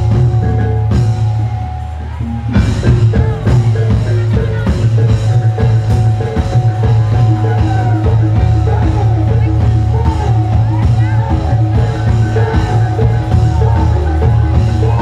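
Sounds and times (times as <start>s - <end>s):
struck metallophones melody: 0.0s - 15.0s.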